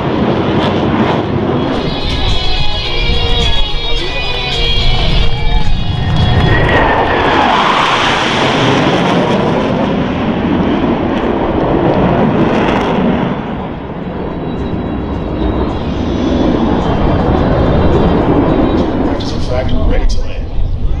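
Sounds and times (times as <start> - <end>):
jet roar flying past: 0.0 - 21.0
falling jet whine: 1.2 - 21.0.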